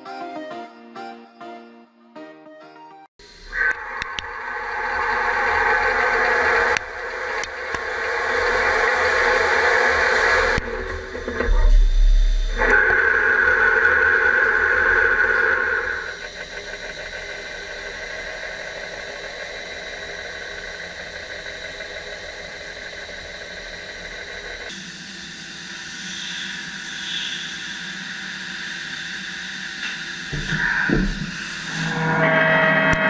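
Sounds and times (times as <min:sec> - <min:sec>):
machine running with steady hiss: 0:03.2 - 0:32.5
lathe cutting tool whine: 0:03.2 - 0:33.0.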